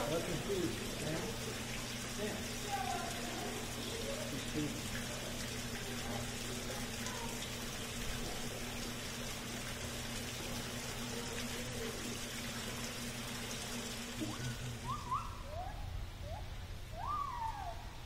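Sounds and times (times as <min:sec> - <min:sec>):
low machine hum: 0:00.0 - 0:18.0
running water: 0:00.0 - 0:18.0.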